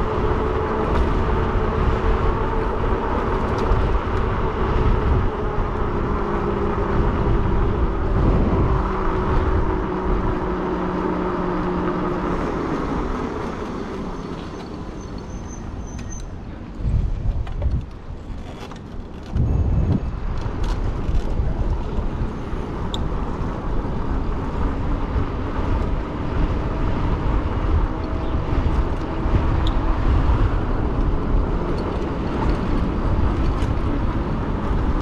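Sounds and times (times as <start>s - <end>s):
tire and road noise: 0.0s - 35.0s
wind buffeting microphone: 0.0s - 35.0s.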